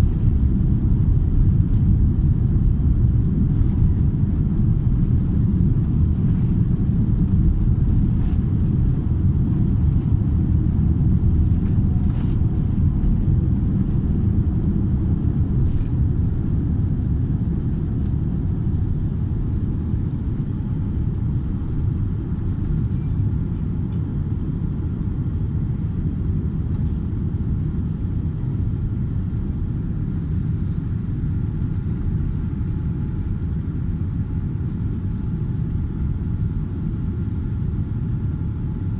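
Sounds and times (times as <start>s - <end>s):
airliner engines rumbling in cabin: 0.0s - 38.9s.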